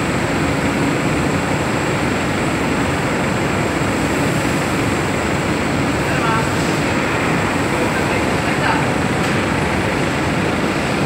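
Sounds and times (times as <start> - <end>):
loud machinery roar: 0.0 - 11.0.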